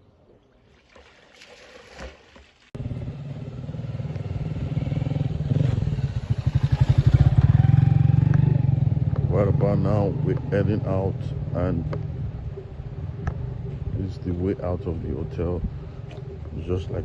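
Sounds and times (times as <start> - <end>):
small engine exhaust pulsing: 2.8 - 17.0.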